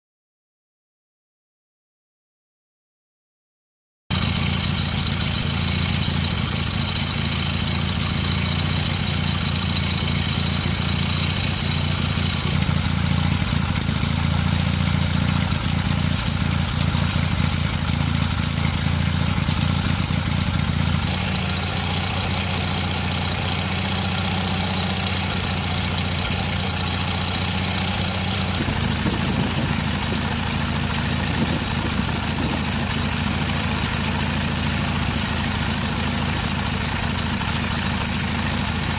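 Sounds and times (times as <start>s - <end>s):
marine engine running: 4.1s - 38.9s.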